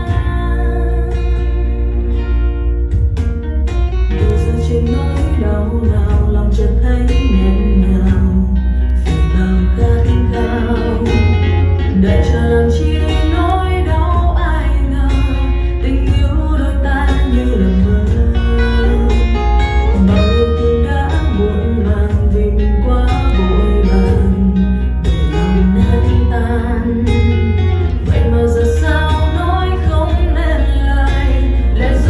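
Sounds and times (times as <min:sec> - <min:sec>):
acoustic guitar ballad with bass: 0:00.0 - 0:32.0.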